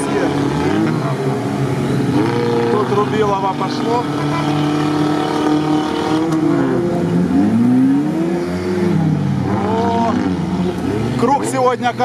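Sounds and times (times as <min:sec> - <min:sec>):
off-road engines revving: 0:00.0 - 0:12.0.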